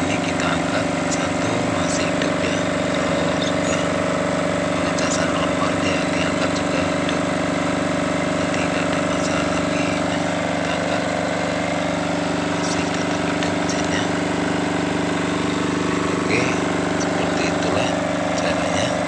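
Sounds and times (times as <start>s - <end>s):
diesel generator running: 0.0s - 19.0s.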